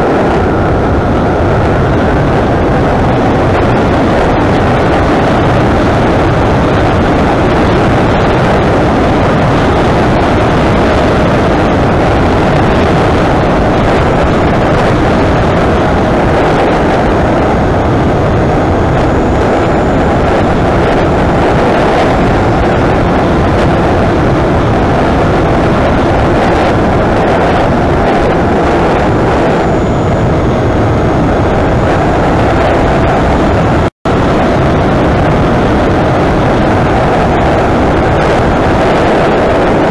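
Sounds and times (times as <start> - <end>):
airflow and propeller noise: 0.0 - 39.9.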